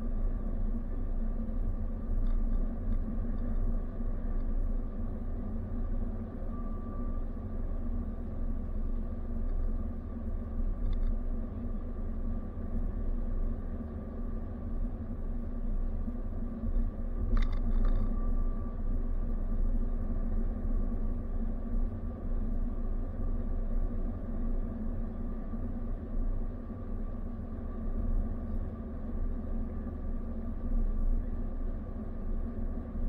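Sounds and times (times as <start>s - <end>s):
engine and tyre rumble: 0.0s - 33.0s
faint steady whine: 0.0s - 33.0s.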